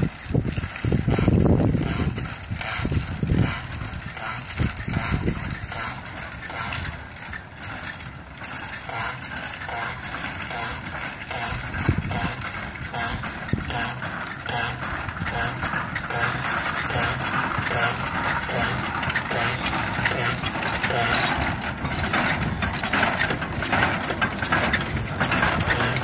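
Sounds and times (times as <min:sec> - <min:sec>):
wind buffeting microphone: 0:00.0 - 0:07.2, 0:10.9 - 0:26.0
steam locomotive puffing: 0:00.1 - 0:26.0.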